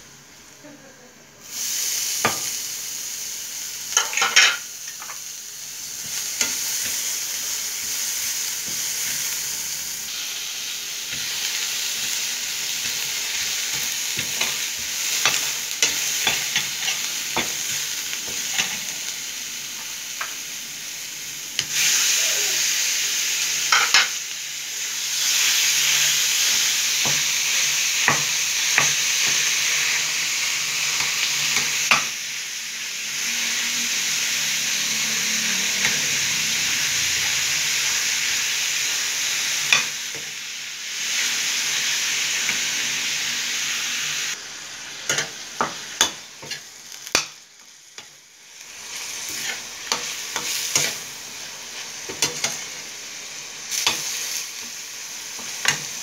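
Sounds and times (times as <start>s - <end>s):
meat sizzling in oil: 1.4s - 56.0s.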